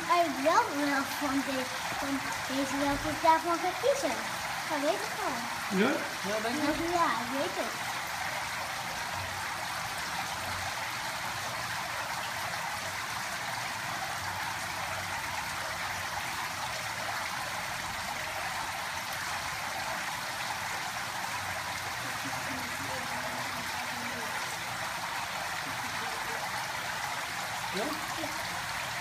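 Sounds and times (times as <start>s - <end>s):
running water splashing: 0.0s - 29.0s.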